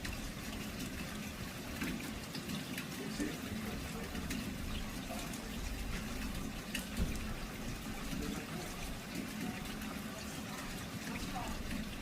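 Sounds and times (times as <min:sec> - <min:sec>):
rain falling: 0:00.0 - 0:12.0
running water: 0:00.0 - 0:12.0
water drips: 0:00.0 - 0:12.0.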